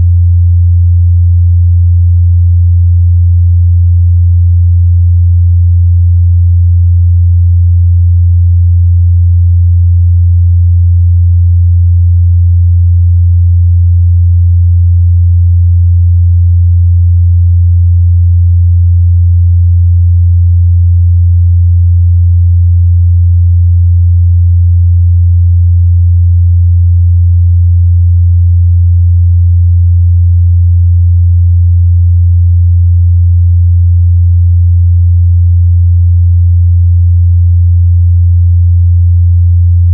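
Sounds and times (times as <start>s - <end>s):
low sine test tone: 0.0s - 39.9s.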